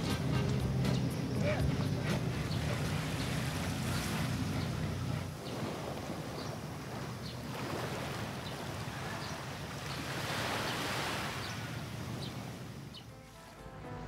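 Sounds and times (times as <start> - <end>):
sea waves washing on shore: 0.0 - 13.6.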